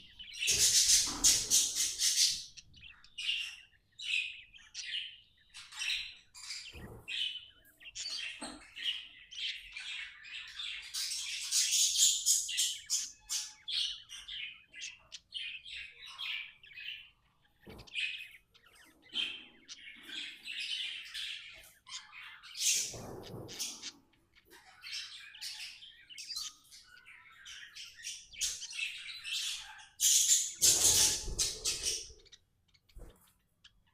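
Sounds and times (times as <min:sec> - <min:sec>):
budgerigar chirping and warbling: 0:00.1 - 0:33.9.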